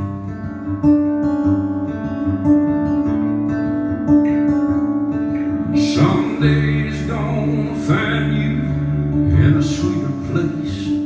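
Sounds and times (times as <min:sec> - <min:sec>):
acoustic guitar country melody: 0:00.0 - 0:11.0.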